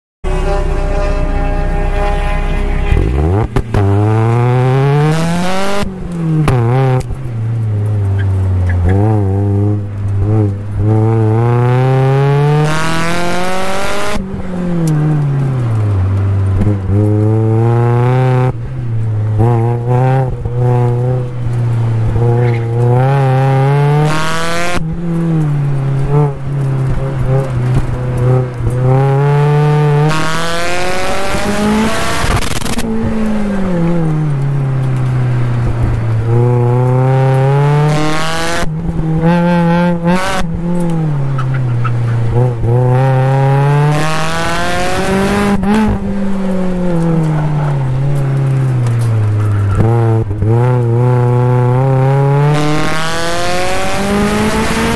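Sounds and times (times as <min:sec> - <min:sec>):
car engine revving: 0:00.2 - 0:54.9.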